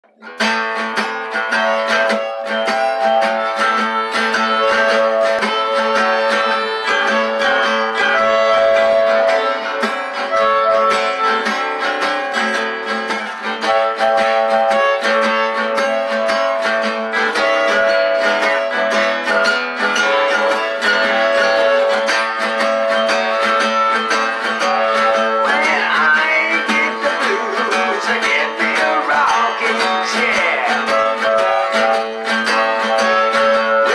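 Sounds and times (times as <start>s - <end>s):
acoustic guitar strumming blues: 0.0s - 33.9s
harmonica playing: 0.4s - 33.9s.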